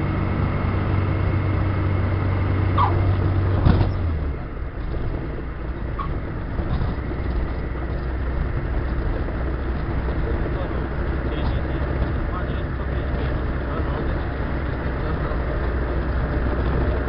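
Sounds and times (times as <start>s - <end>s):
light aircraft engine and propeller: 0.0s - 17.0s.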